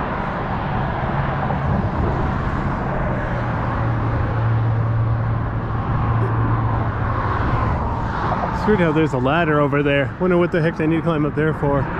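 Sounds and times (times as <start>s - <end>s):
passing traffic road noise: 0.0s - 11.9s
vehicle engine hum: 0.0s - 11.9s.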